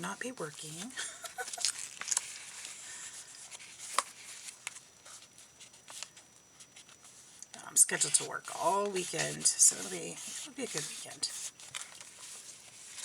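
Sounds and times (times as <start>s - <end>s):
paper rustling: 0.0s - 7.3s, 8.0s - 13.0s.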